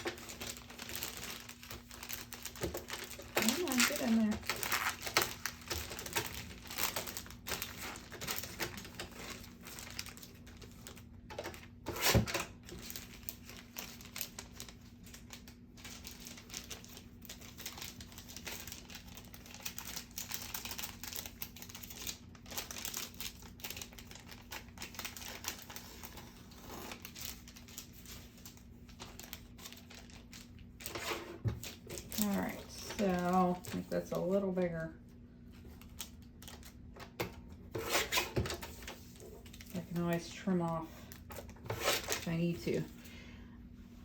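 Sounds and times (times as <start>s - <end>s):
packaging rustling and crinkling: 0.0s - 43.1s.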